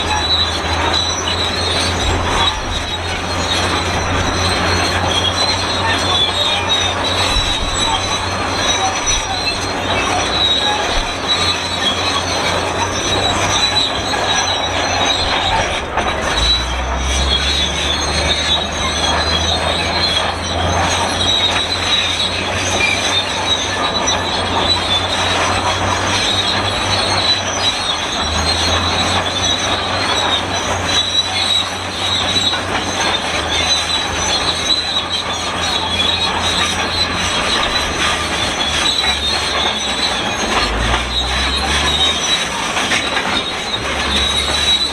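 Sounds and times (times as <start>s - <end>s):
bulldozer metal squealing: 0.0s - 44.9s
diesel engine rumble: 0.0s - 44.9s.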